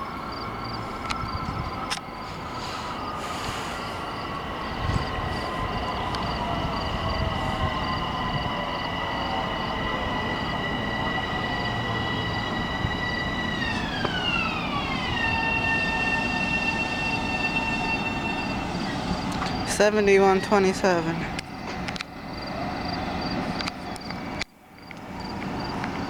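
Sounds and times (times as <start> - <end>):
electric train propulsion whine: 0.0 - 26.0
wheel and track rumble: 0.0 - 26.0.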